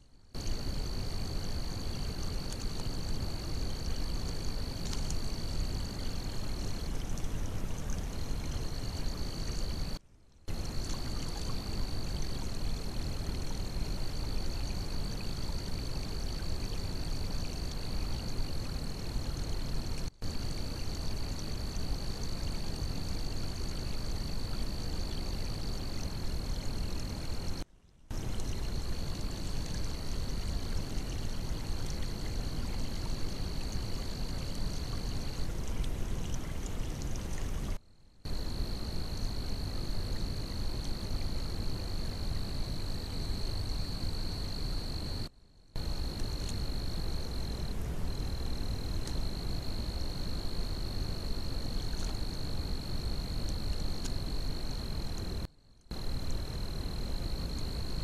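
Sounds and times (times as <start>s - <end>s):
water rushing and trickling: 0.4s - 45.2s, 45.8s - 58.0s.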